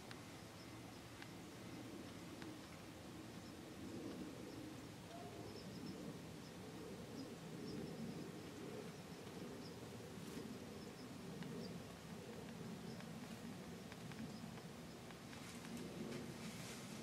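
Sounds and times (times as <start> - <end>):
low steady murmur: 0.0 - 17.0.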